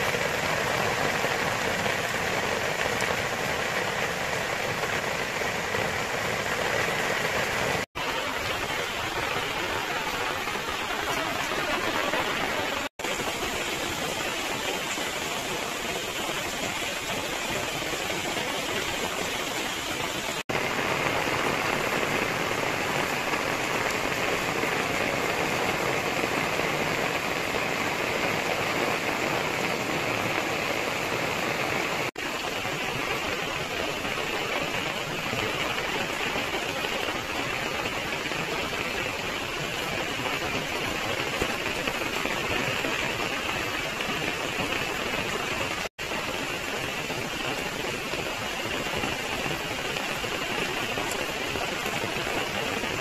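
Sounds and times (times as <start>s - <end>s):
rain falling on foliage: 0.0s - 53.0s.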